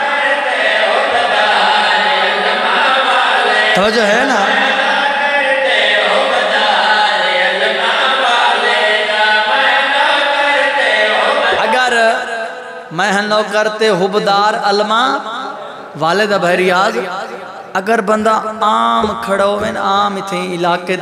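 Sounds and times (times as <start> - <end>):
man chanting into microphone: 0.0 - 21.0.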